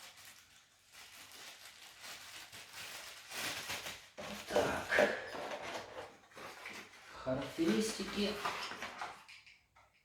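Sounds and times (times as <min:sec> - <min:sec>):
plastic packaging rustling: 0:00.0 - 0:09.6.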